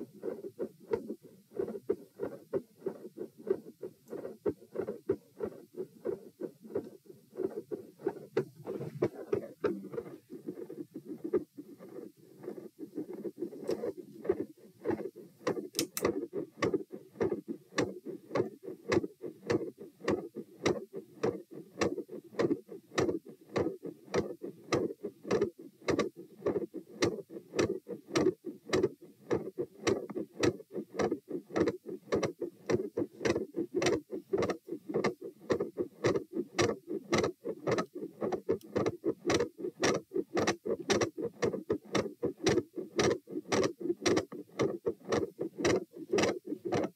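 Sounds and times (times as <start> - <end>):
heartbeat through stethoscope: 0.0 - 46.9.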